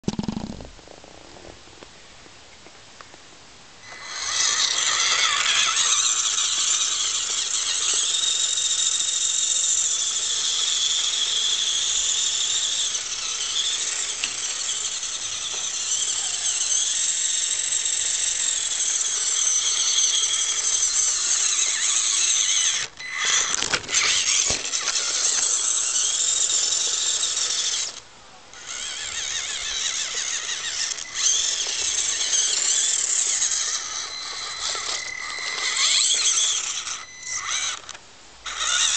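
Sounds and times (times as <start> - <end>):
electric motor whining: 3.8 - 38.9.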